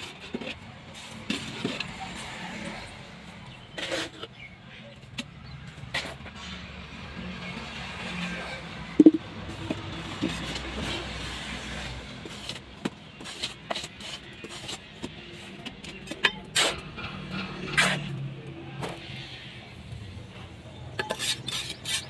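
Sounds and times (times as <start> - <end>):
trowel scraping wet cement: 0.0 - 6.7, 8.2 - 19.3, 20.9 - 22.0.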